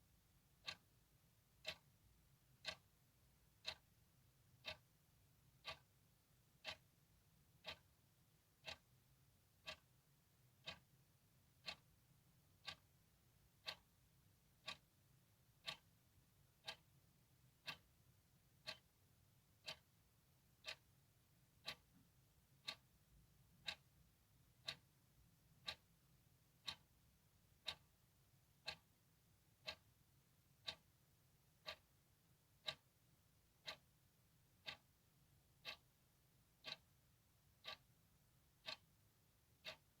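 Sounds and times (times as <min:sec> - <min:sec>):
clock ticking: 0:00.5 - 0:40.0.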